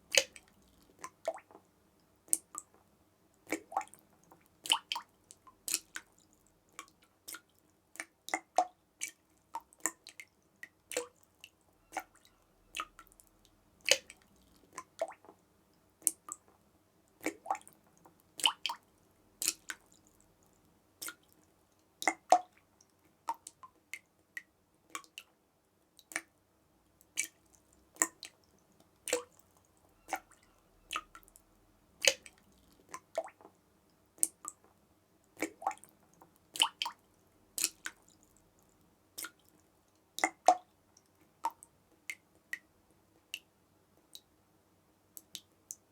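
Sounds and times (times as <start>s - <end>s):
water drops dripping: 0.1s - 2.8s, 3.4s - 15.4s, 17.2s - 25.4s, 26.0s - 26.3s, 27.0s - 31.4s, 32.0s - 33.6s, 35.3s - 44.3s.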